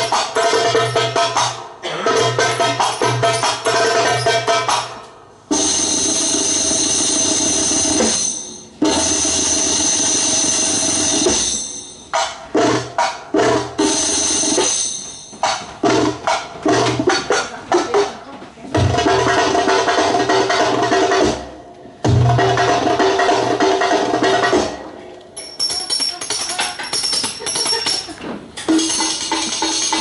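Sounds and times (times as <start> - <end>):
heavy drum beats: 0.0 - 24.8.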